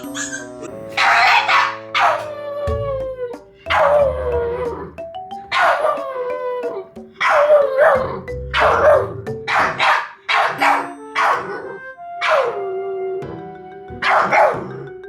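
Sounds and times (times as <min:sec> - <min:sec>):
background music: 0:00.0 - 0:15.0
puppy howling: 0:01.0 - 0:13.3.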